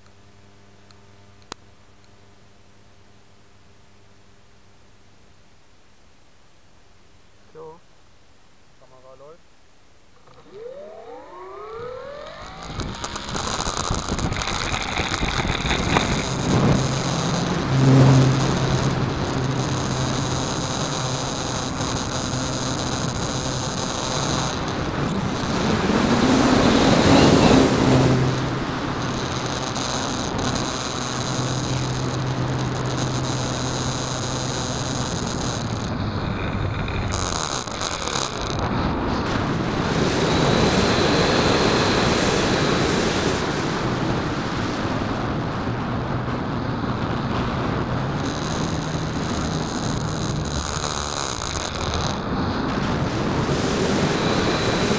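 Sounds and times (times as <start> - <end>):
air rushing over microphone: 10.2 - 54.9
electric motor and propeller whine: 10.2 - 54.9.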